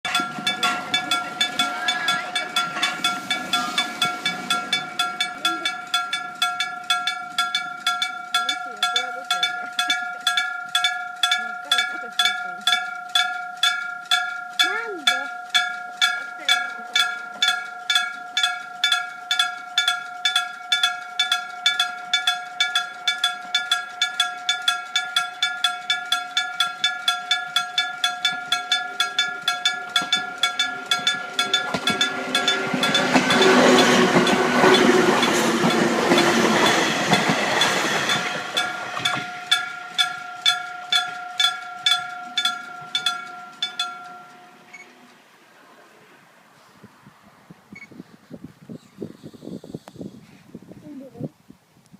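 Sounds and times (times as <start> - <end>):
level-crossing warning bell: 0.0 - 45.3
train passing: 0.0 - 48.2.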